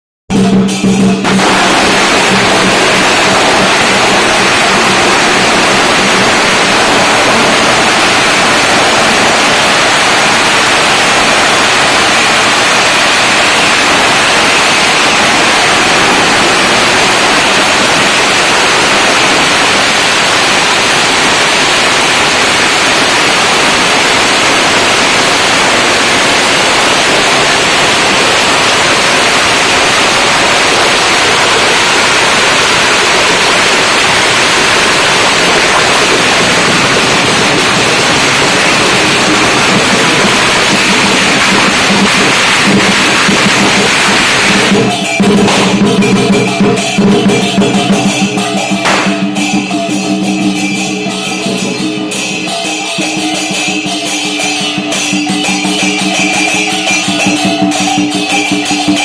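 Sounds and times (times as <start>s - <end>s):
firecrackers crackling: 0.3s - 59.0s.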